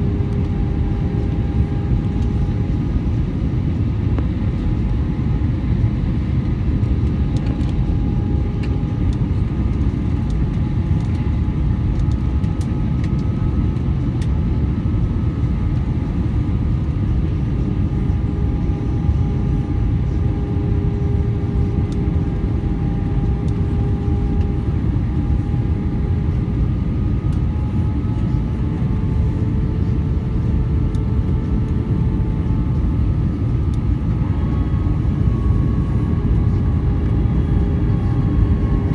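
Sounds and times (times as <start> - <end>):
faint engine whines: 0.0 - 38.9
jet engine rumble in cabin: 0.0 - 38.9.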